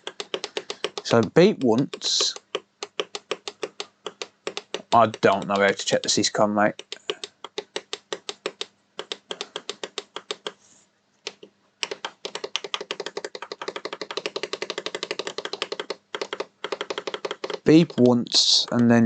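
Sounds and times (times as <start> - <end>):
typing on computer keyboard: 0.0 - 10.6, 11.3 - 18.9.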